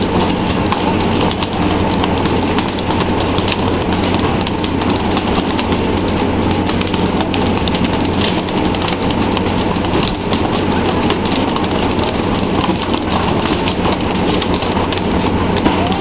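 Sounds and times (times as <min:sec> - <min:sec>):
ship engine hum: 0:00.0 - 0:16.0.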